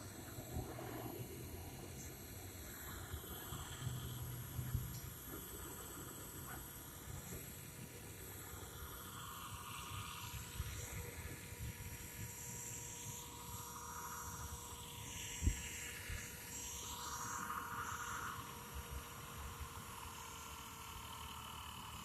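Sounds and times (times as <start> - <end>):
model helicopter rotors whining: 0.0 - 22.0.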